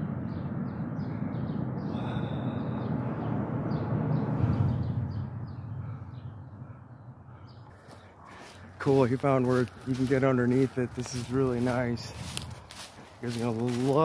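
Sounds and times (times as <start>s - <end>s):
steady low rumble: 0.0s - 14.0s
small birds chirping: 0.2s - 14.0s.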